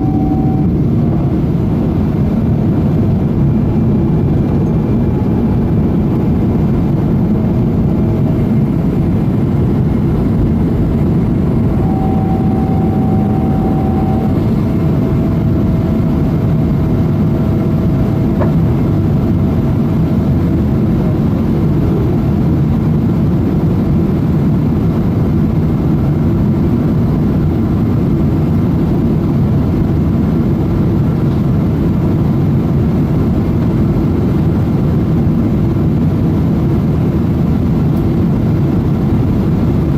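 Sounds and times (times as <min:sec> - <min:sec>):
airplane cabin engine rumble: 0:00.0 - 0:39.9
faint steady whine: 0:00.0 - 0:39.9.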